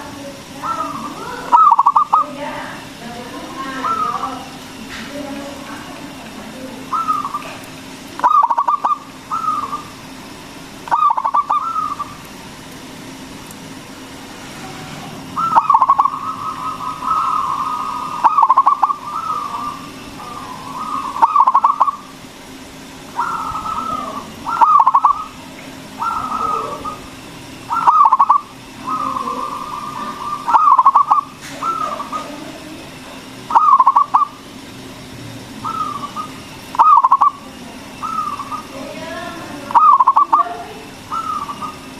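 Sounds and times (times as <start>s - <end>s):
dove cooing song: 0.0s - 4.6s, 5.2s - 10.2s, 10.8s - 12.3s, 14.7s - 34.5s, 35.5s - 41.9s.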